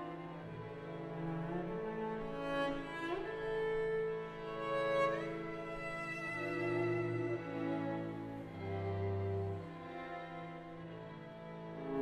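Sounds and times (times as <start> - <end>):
cello and strings bowed chords: 0.0 - 12.0.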